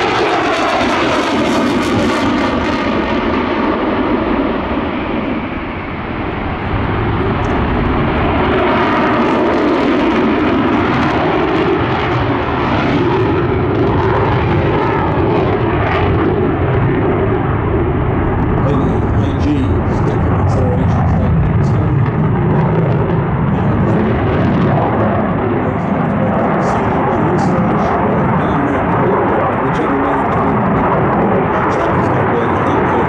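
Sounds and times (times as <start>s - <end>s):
jet engines with afterburners roaring: 0.0s - 33.0s.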